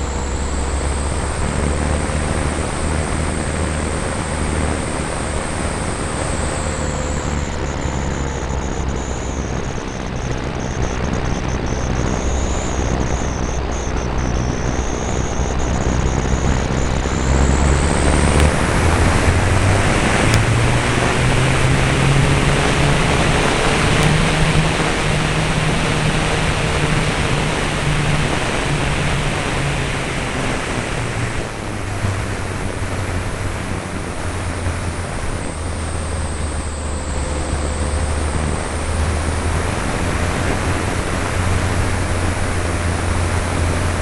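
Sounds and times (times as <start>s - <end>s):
steady rushing noise: 0.0s - 44.0s.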